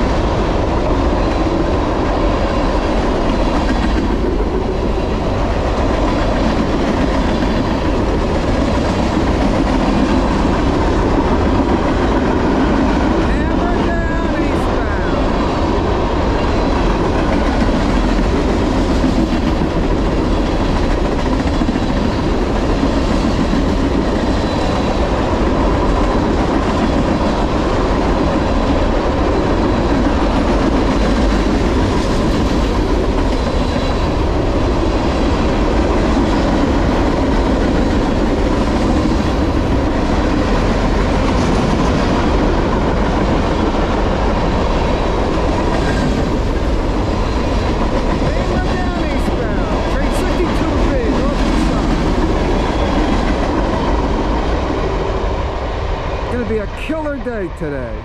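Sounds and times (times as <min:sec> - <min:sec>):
steel train wheels rumbling: 0:00.0 - 0:58.0.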